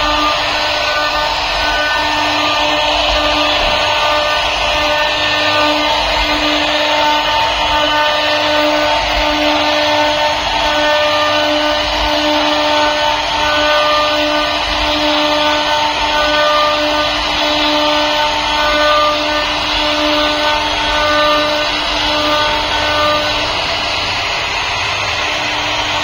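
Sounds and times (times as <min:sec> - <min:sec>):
hiss of cutting: 0:00.0 - 0:26.0
router spindle whining: 0:00.0 - 0:26.0.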